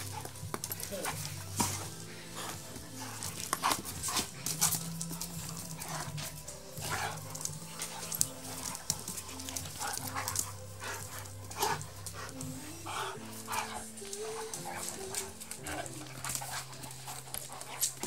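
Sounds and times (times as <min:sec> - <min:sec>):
background music with low notes: 0:00.0 - 0:18.0.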